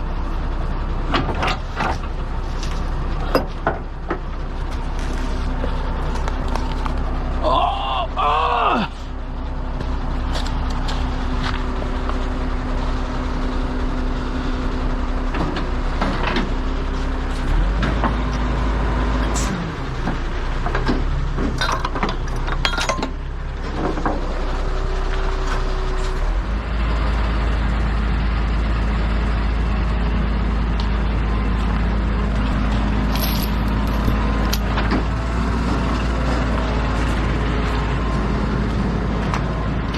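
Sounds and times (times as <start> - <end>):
heavy truck engine rumbling: 0.0 - 39.9.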